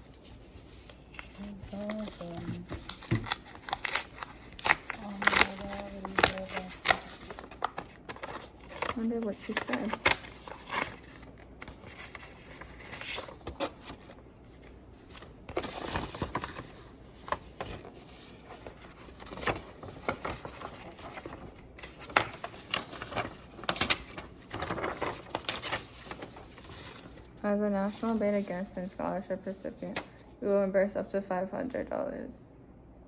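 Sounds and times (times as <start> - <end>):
paper rustling and crinkling: 0.0 - 28.8.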